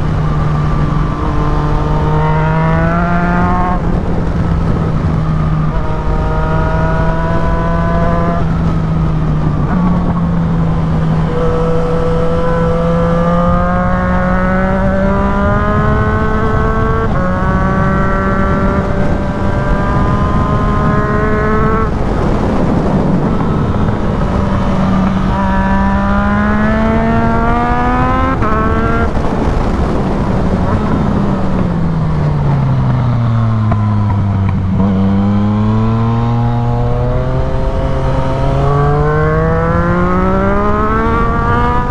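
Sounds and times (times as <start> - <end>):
motorcycle engine revving through gears: 0.0 - 41.9
wind rush on microphone: 0.0 - 41.9.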